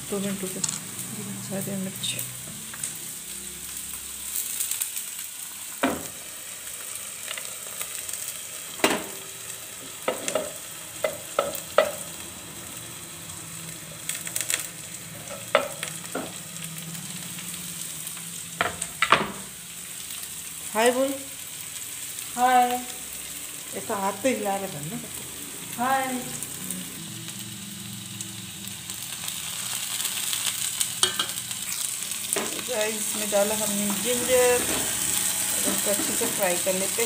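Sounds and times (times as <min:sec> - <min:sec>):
food sizzling in hot oil: 0:00.0 - 0:37.0.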